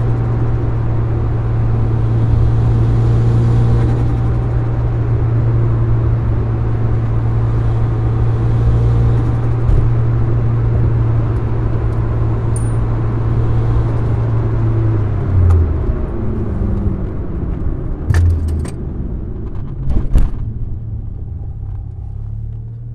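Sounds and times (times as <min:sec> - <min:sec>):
car engine drone inside cabin: 0:00.0 - 0:22.9.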